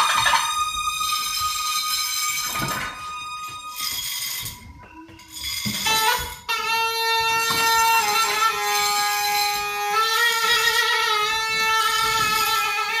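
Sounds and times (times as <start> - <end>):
reedy wind instrument long notes: 0.0 - 13.0.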